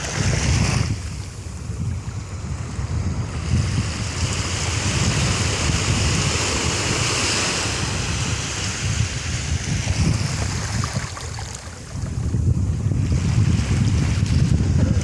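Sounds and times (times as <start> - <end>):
waves washing up a beach: 0.0 - 15.0
wind rumbling on microphone: 0.0 - 15.0.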